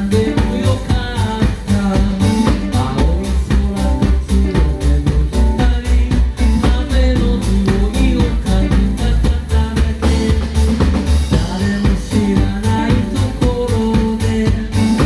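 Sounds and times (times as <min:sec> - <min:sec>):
deep bass line: 0:00.0 - 0:15.0
drums steady beat: 0:00.0 - 0:15.0
live band music: 0:00.0 - 0:15.0.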